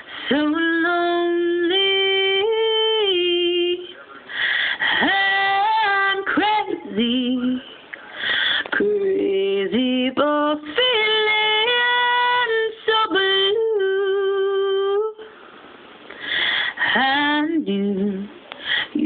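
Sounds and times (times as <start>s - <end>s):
woman singing unaccompanied: 0.0s - 4.0s, 4.8s - 7.8s, 8.6s - 15.3s, 16.8s - 19.0s.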